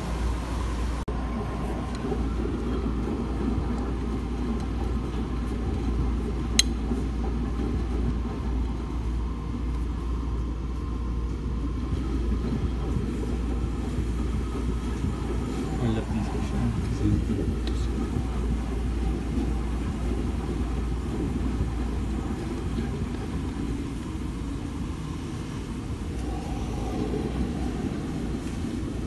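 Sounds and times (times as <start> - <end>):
washing machines and dryers rumbling: 0.0 - 29.0.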